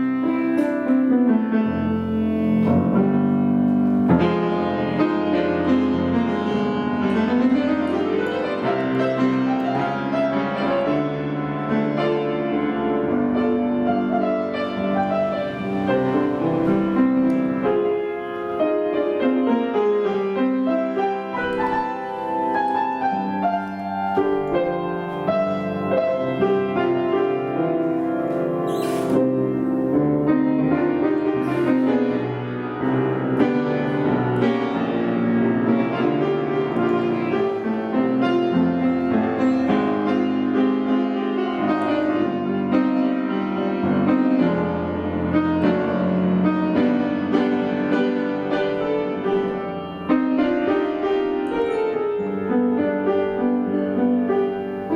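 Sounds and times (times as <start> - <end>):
instrumental piano music: 0.0 - 54.9.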